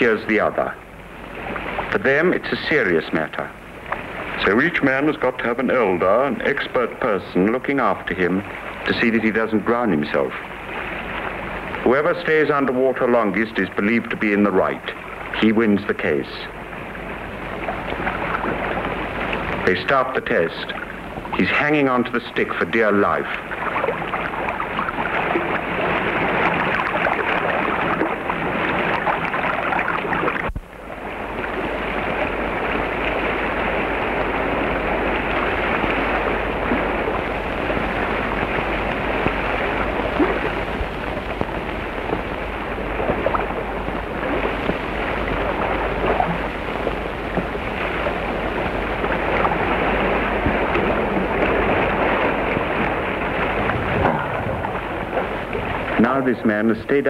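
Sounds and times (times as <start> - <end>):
river water rushing and splashing: 1.2 - 56.3.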